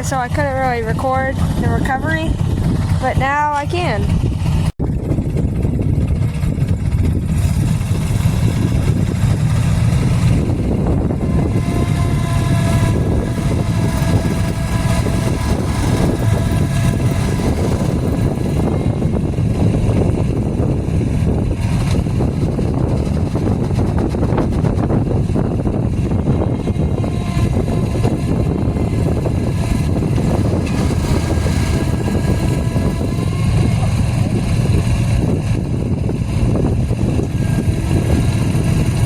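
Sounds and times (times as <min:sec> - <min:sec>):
vehicle engines rumbling: 0:00.0 - 0:39.0.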